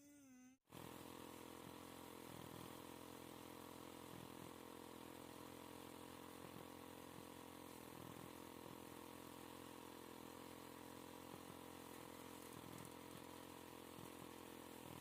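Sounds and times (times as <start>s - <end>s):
faint engine running: 0.6s - 15.0s.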